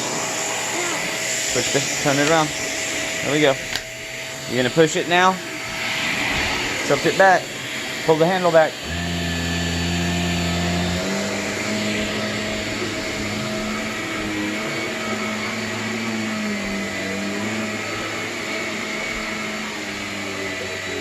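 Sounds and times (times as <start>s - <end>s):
vacuum cleaner motor hum: 0.0s - 21.0s.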